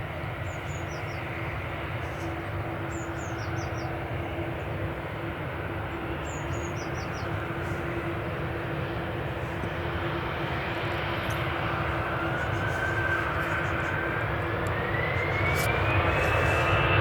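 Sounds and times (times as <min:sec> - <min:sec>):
distant jet engines rushing: 0:00.0 - 0:17.0.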